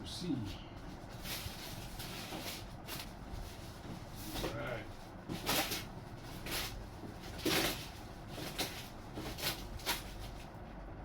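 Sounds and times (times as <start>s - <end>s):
packaging rustling and scraping: 1.1s - 10.5s.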